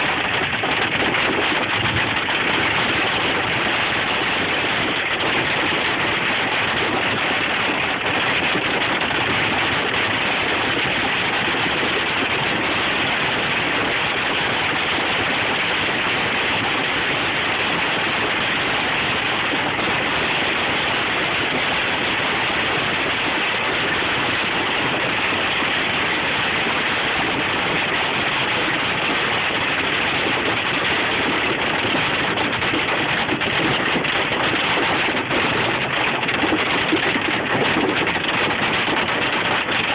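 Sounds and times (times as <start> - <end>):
hail and rain pelting a vehicle: 0.0 - 39.9.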